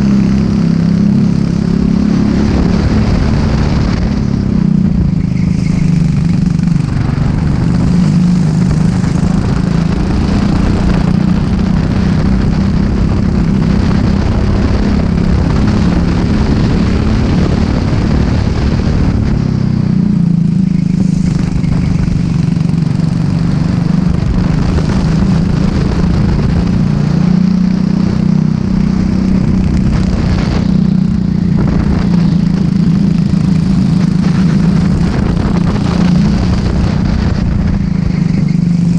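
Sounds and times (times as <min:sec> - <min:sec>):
racing kart engine: 0:00.0 - 0:38.9.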